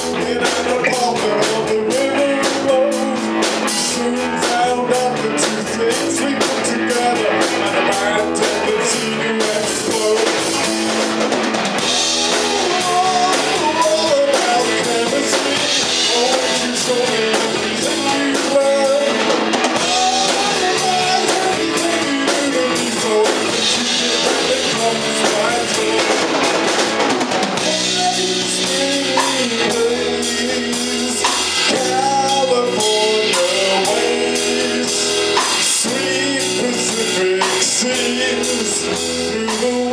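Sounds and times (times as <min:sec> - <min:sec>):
drum kit: 0:00.0 - 0:39.9
electric bass: 0:00.0 - 0:39.9
electric guitar: 0:00.0 - 0:39.9
wavering melodic lead line: 0:00.0 - 0:39.9.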